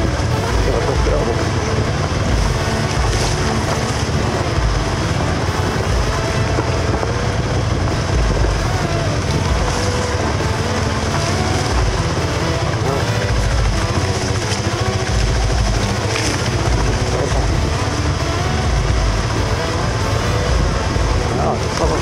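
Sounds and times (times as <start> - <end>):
motorcycle engine revving: 0.0 - 22.0
wind noise on microphone: 0.0 - 22.0.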